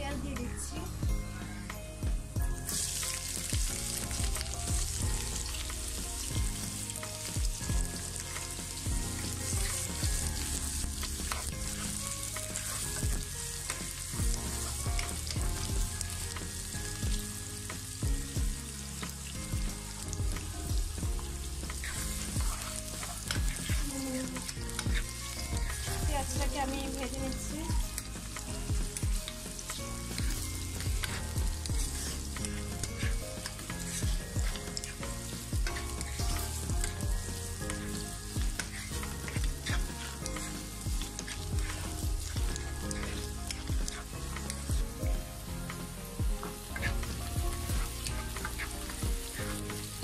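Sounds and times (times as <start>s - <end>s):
onions sizzling in oil: 0.0s - 50.0s.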